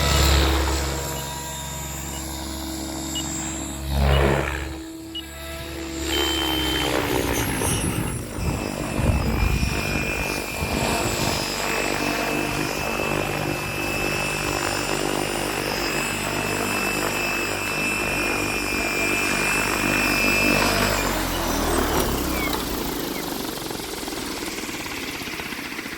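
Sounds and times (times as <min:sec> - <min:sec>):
helicopter rotor noise: 0:00.0 - 0:25.9
high motor and gear whine: 0:00.0 - 0:25.9.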